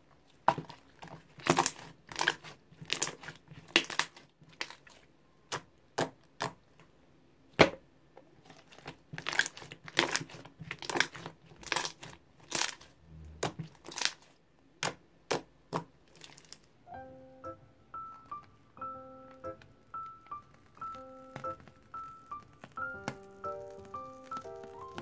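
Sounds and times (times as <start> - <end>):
slime crackling and popping: 0.3 - 6.6, 8.4 - 16.7, 18.0 - 18.6, 19.3 - 25.0.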